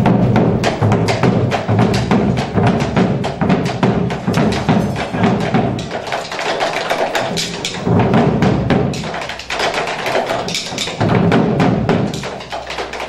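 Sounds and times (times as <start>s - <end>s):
rapid foot-stamping: 0.0s - 13.0s
steady drum beat: 0.0s - 13.0s.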